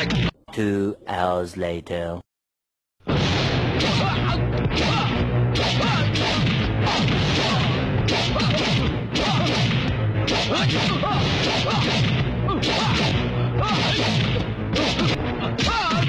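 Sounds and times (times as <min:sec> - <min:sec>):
fight whacks: 0:03.1 - 0:16.0.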